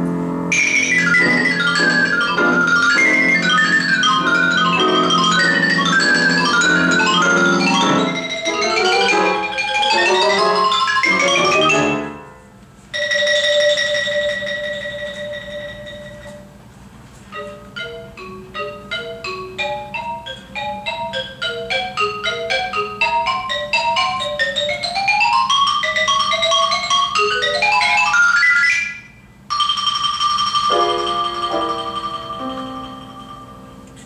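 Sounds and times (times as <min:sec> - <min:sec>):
piano accompaniment: 0:00.0 - 0:16.6, 0:17.3 - 0:34.0
xylophone playing: 0:00.5 - 0:12.4, 0:13.0 - 0:16.5, 0:17.3 - 0:34.0.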